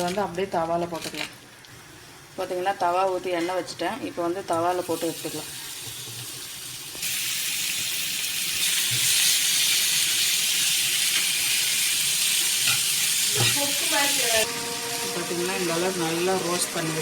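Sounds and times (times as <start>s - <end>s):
prawns sizzling in hot oil: 1.0s - 17.0s.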